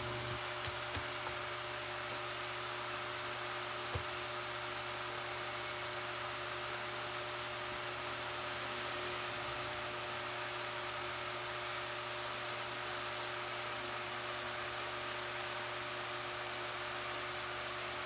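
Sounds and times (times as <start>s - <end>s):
electrical hum: 0.0s - 15.5s.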